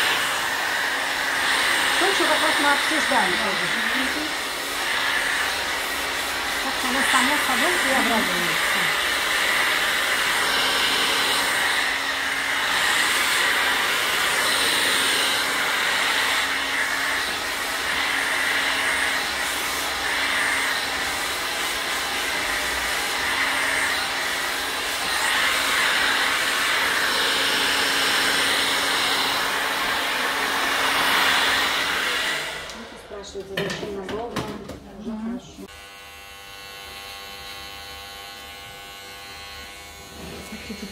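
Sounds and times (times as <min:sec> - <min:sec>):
hair dryer blowing: 0:00.0 - 0:34.5, 0:35.1 - 0:40.9.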